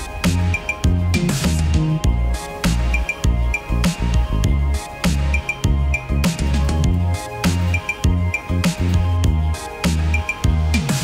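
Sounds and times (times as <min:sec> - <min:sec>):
electronic music with bass and beat: 0:00.0 - 0:11.0.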